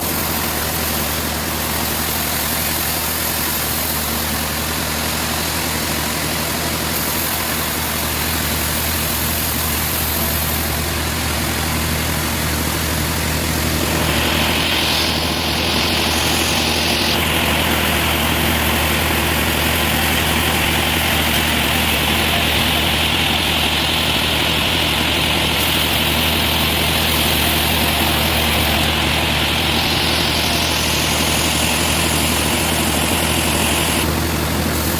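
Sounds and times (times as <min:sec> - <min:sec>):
high machine whine: 0:00.0 - 0:34.9
sawmill machinery drone: 0:00.0 - 0:34.9.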